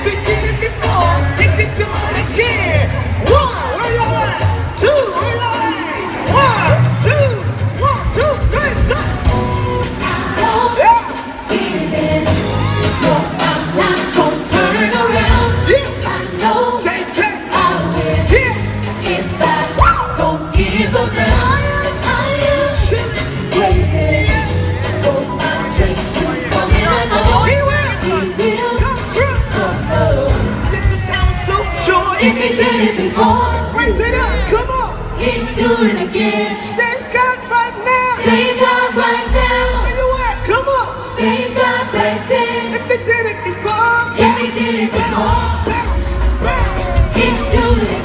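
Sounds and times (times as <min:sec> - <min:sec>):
gospel band with strong bass: 0:00.0 - 0:48.0
singers' wordless vocal runs: 0:00.0 - 0:48.0.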